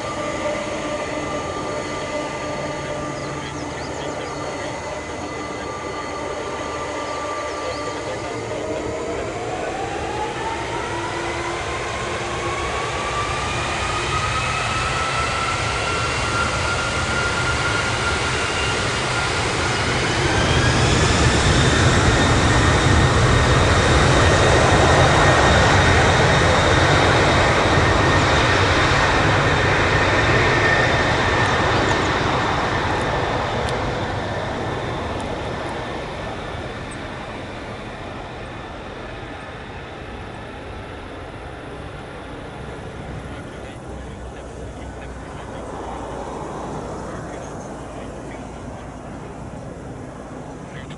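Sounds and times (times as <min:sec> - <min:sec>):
jet engines spooling up: 0:00.0 - 0:50.9.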